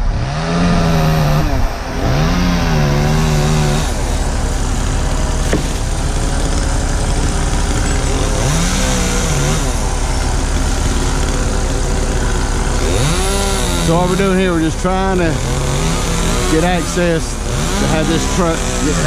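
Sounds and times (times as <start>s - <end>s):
chainsaw revving: 0.0s - 19.0s
diesel engine running: 0.0s - 19.0s.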